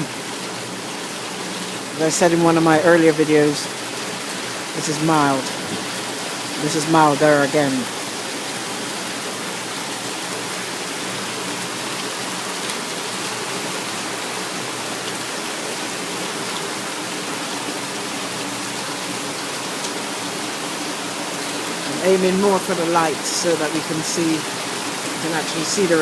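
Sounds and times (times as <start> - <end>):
rain pouring down: 0.0 - 26.0.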